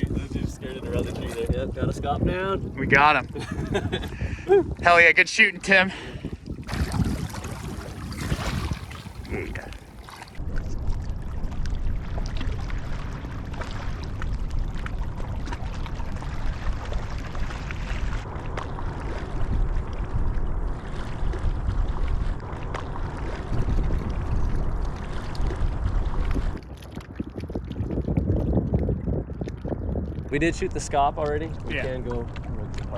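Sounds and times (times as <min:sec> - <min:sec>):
water sloshing and splashing: 0:00.0 - 0:32.9
wind rumble on microphone: 0:00.0 - 0:32.9.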